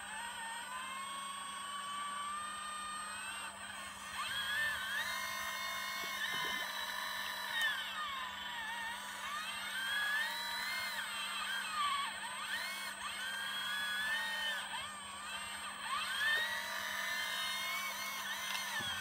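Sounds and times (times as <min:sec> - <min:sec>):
hydraulic pump whining: 0:00.0 - 0:19.0
steady low hum: 0:00.0 - 0:19.0.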